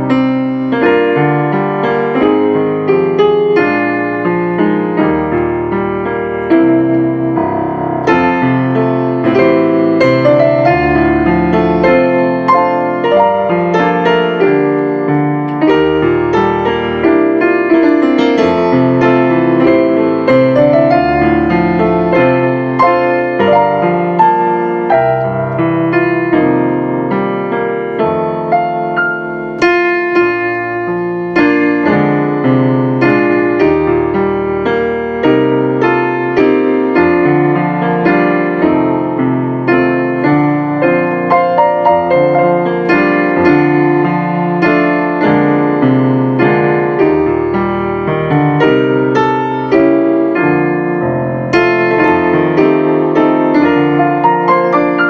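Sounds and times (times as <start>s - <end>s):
electronic keyboard piano melody: 0.0s - 55.0s.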